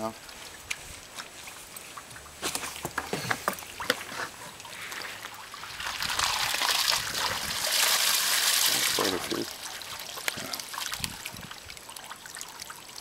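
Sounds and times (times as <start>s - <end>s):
water pouring and dribbling: 0.0s - 13.0s
water sloshing and splashing: 0.2s - 13.0s
sharp little splashes and knocks: 0.3s - 12.8s.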